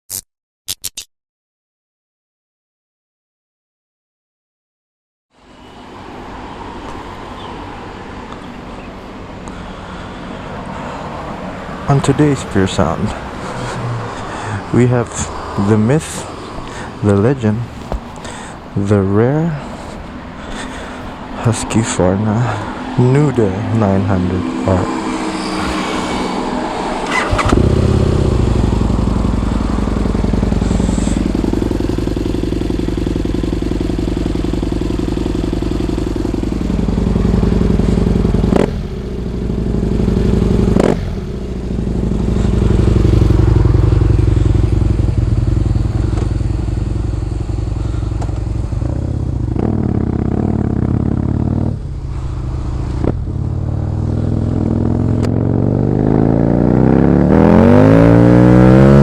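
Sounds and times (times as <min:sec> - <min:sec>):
motorcycle engine revving: 0:05.4 - 0:59.0.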